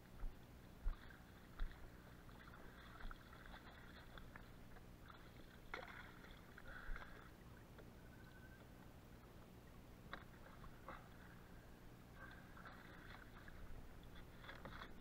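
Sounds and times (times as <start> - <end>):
light water movement: 0.0 - 15.0.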